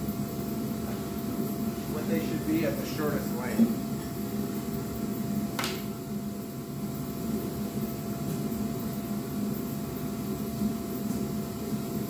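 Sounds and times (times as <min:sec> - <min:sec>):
fan-like whirring hum: 0:00.0 - 0:12.0.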